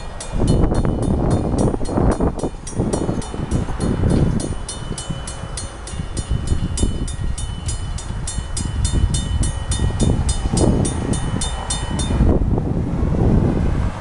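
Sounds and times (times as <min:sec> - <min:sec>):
railroad crossing bell ringing: 0:00.0 - 0:12.4
passing train rumble: 0:00.0 - 0:14.0.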